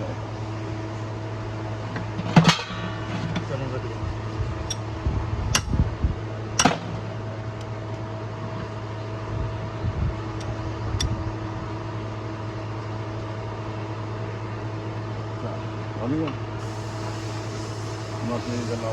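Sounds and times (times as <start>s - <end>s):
steady mechanical hum: 0.0s - 18.9s.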